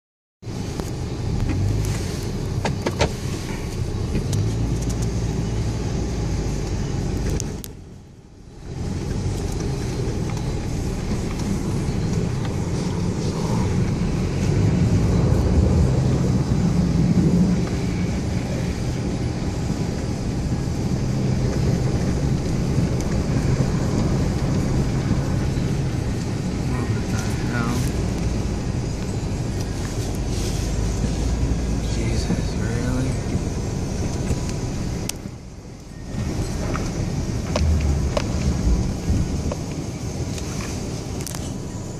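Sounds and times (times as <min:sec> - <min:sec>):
engine and road rumble in cab: 0:00.4 - 0:41.9.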